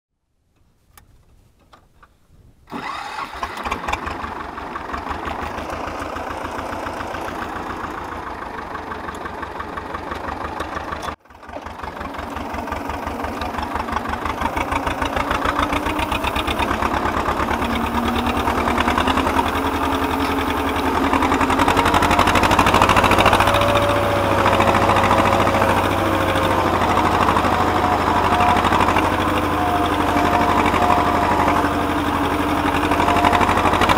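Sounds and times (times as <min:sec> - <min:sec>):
tractor diesel engine running: 0:01.4 - 0:33.9.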